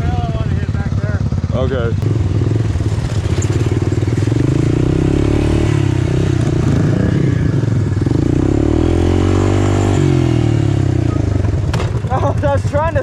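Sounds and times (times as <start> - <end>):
off-road engine revving: 0.0 - 13.0.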